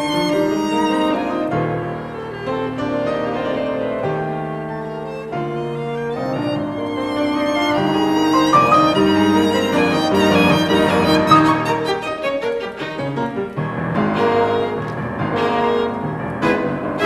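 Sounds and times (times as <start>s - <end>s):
piano chords: 0.0s - 17.0s
violin: 0.0s - 17.0s.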